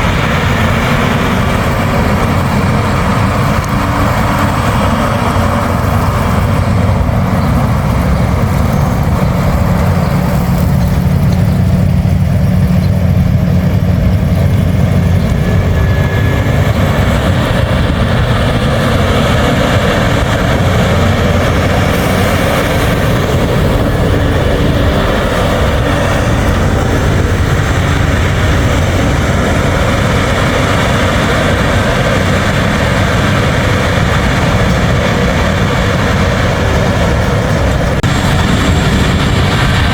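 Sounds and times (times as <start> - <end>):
combine harvester rumbling: 0.0 - 39.9.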